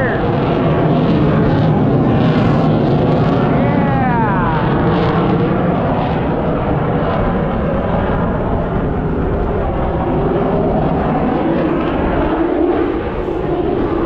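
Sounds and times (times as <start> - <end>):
low-flying aircraft engine: 0.0 - 14.0.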